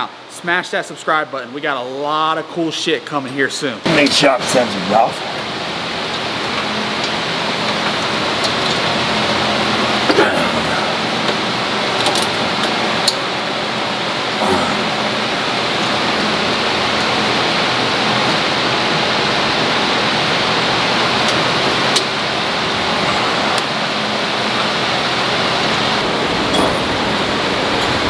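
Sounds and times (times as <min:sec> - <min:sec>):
fan rushing air: 0:00.0 - 0:28.0.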